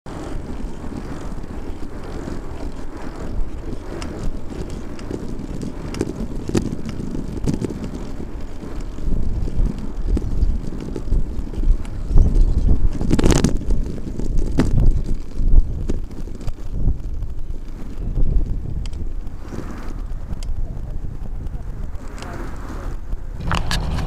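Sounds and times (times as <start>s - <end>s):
low road rumble: 0.0s - 24.0s
wind rushing over microphone: 0.0s - 24.0s.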